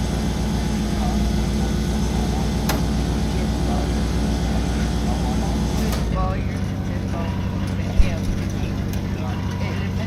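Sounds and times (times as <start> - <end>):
aircraft piston engine humming: 0.0 - 10.0.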